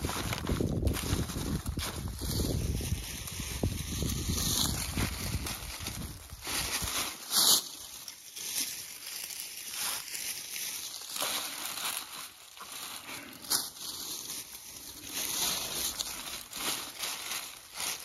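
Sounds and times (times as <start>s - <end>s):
dry leaves rustling and crunching: 0.0s - 18.0s.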